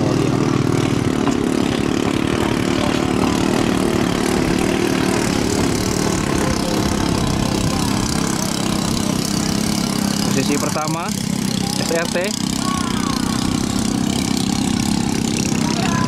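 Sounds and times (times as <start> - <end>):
boat engine running hard: 0.0 - 16.0.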